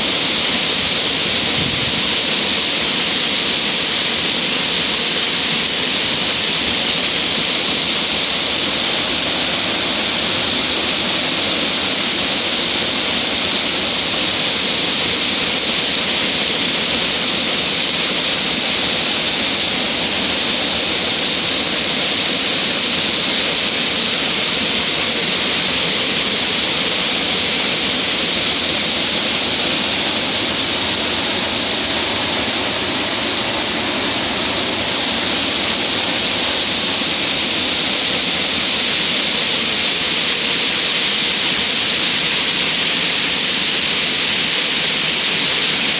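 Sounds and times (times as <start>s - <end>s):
pouring water rushing: 0.0s - 45.9s.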